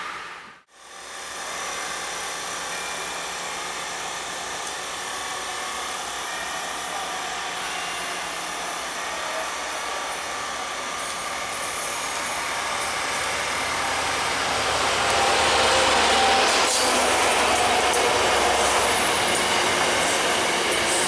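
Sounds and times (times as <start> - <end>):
approaching train roar: 1.5 - 21.0.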